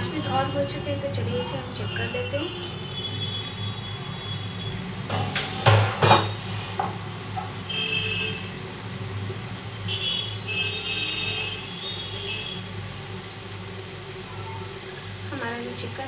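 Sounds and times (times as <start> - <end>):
low sizzle in frying pan: 0.0 - 16.0.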